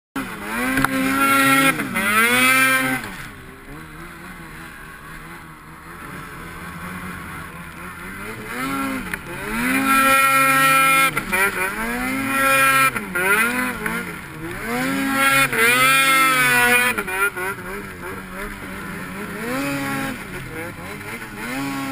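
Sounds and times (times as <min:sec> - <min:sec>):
snowmobile engine revving: 0:00.2 - 0:21.9.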